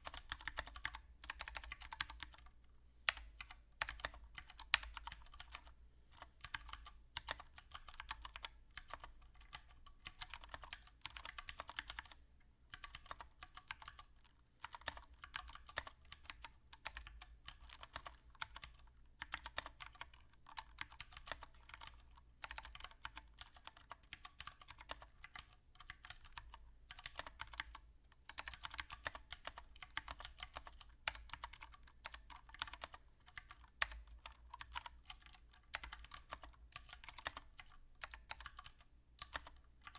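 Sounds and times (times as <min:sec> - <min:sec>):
mechanical keyboard typing: 0:00.0 - 0:02.5, 0:03.1 - 0:39.9.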